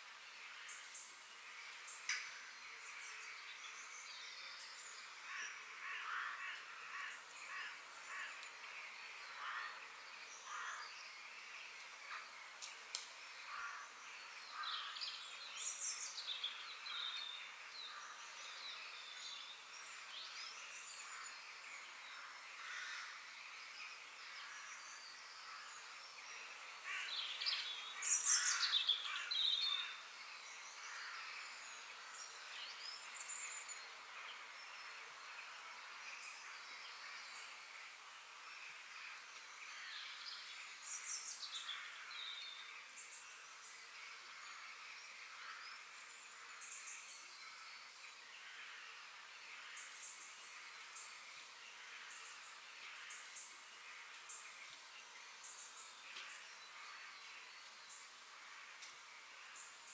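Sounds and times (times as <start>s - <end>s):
steady ambient hiss: 0.0s - 59.9s.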